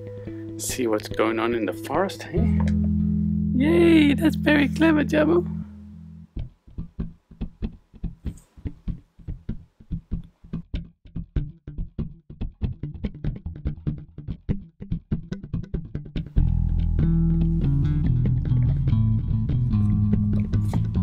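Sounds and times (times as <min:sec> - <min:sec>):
bass: 0:00.0 - 0:21.0
plucked guitar music: 0:00.0 - 0:21.0.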